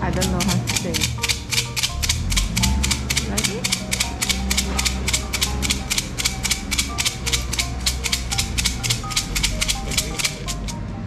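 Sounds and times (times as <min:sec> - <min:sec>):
sticks clattering in shaken cylinder: 0:00.1 - 0:10.7.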